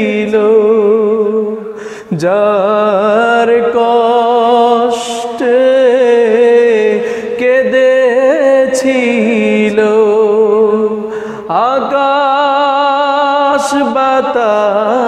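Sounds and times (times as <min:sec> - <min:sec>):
man singing slow song: 0:00.0 - 0:15.0.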